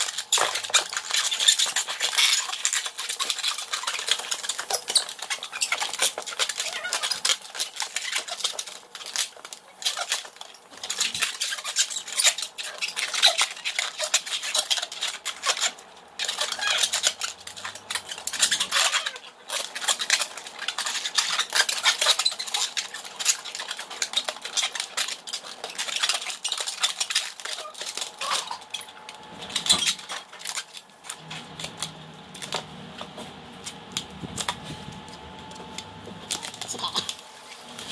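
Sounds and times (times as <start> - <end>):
balloon squeaking and rubbing: 0.0 - 9.0, 9.8 - 37.9.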